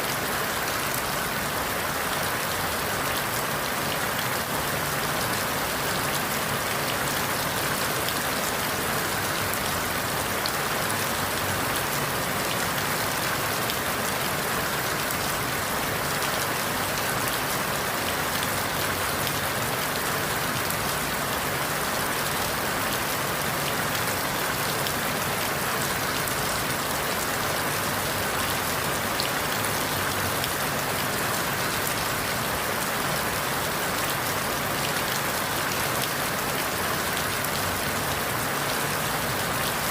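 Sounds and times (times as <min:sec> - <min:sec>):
rain falling through leaves: 0:00.0 - 0:39.9.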